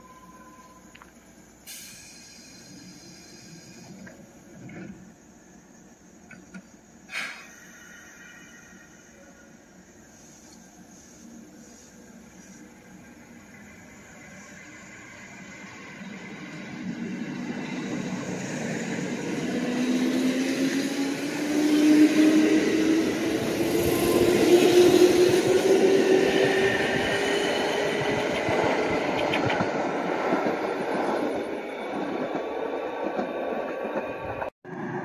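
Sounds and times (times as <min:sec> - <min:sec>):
wheels on rail: 0:06.0 - 0:35.0.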